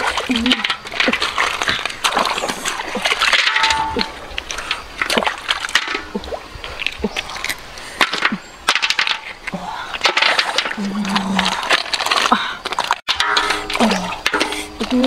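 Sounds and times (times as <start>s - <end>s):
river water splashing: 0.0s - 15.0s.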